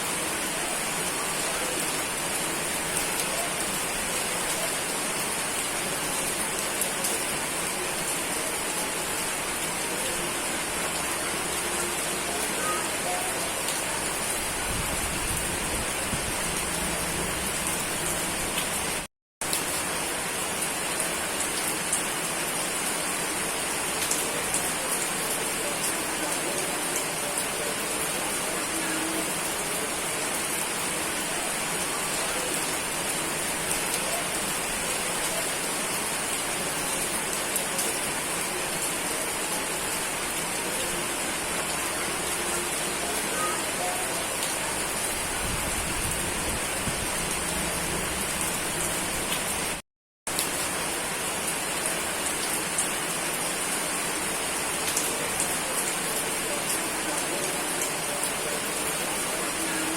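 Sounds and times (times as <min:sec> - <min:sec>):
steady heavy rain: 0:00.0 - 0:59.9.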